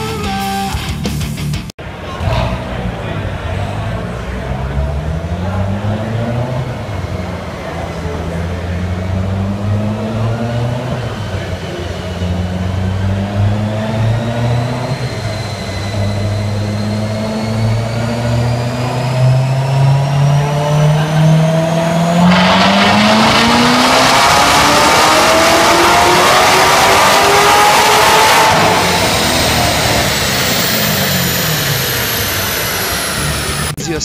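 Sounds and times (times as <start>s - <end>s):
car engine revving under load: 1.8s - 33.8s.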